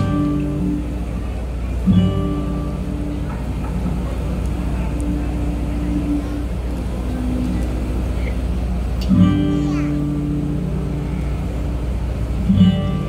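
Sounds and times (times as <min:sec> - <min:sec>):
low rumble of outdoor stage: 0:00.0 - 0:13.0.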